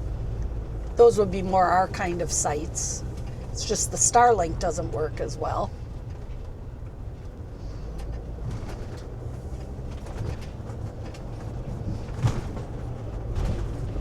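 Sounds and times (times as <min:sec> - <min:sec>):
diesel engine rumble: 0:00.0 - 0:14.0
road noise: 0:00.0 - 0:14.0.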